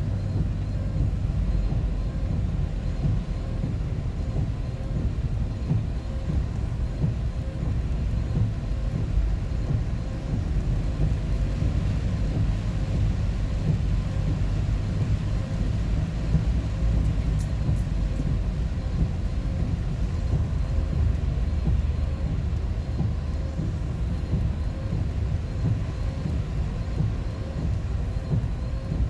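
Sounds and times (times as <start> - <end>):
truck engine rumble: 0.0 - 29.0.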